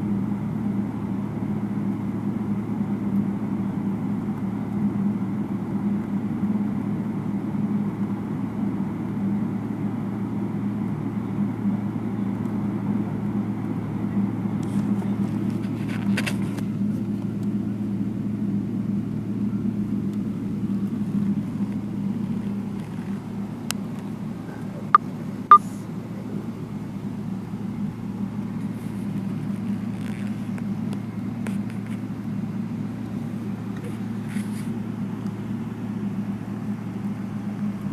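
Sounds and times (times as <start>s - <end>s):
jet engines rumbling in cabin: 0.0s - 37.9s.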